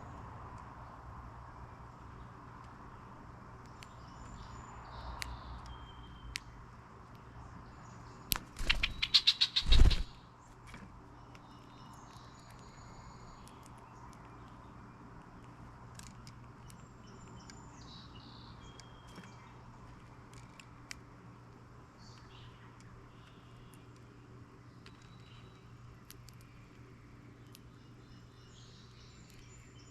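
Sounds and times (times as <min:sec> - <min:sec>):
birds chirping faintly: 0:00.0 - 0:29.9.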